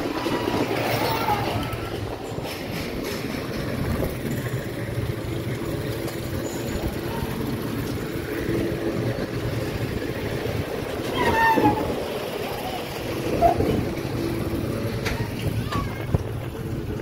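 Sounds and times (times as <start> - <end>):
ride machinery rumbling: 0.0 - 17.0
wind rumble: 0.0 - 17.0.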